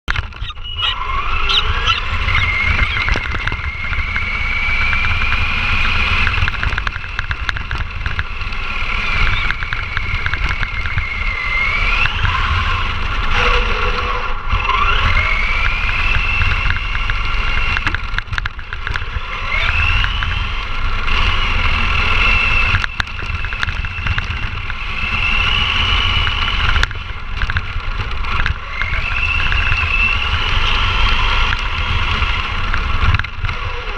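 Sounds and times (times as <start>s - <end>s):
low rumble: 0.1s - 33.9s
toy truck electric motor whining: 0.1s - 33.9s.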